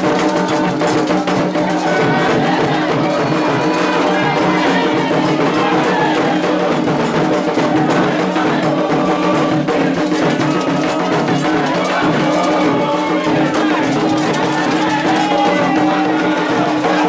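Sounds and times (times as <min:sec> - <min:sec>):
hand drums and percussion: 0:00.0 - 0:17.0
sung chant: 0:00.0 - 0:17.0.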